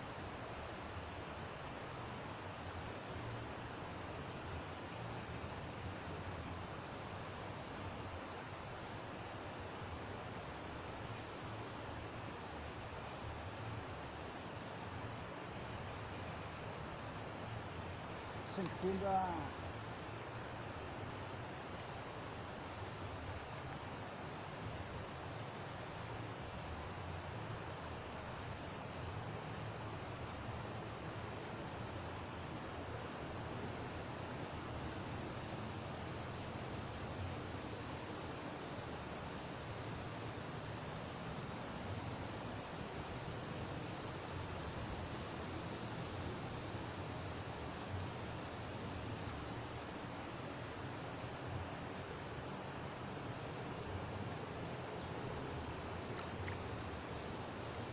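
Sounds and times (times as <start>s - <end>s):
crickets trilling: 0.0s - 57.9s
even hiss: 0.0s - 57.9s
higher insect trill: 0.0s - 57.9s.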